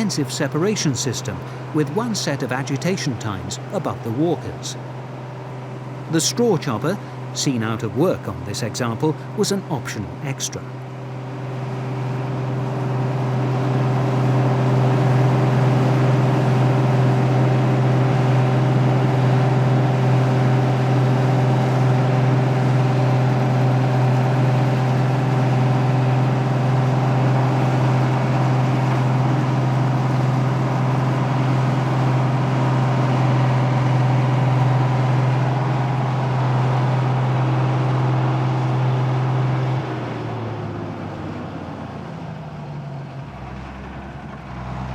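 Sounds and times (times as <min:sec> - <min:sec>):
combine harvester drone: 0:00.0 - 0:44.9.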